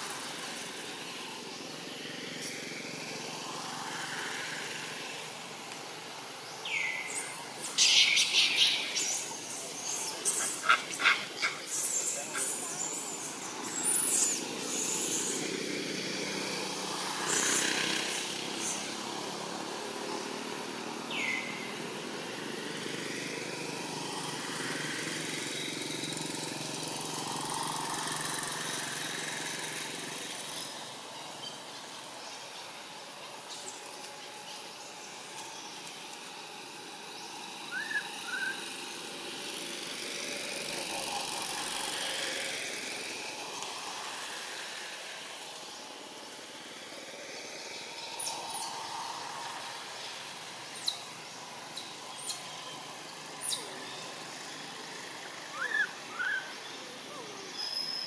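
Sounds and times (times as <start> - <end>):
vehicle engine hum: 0.0 - 58.0.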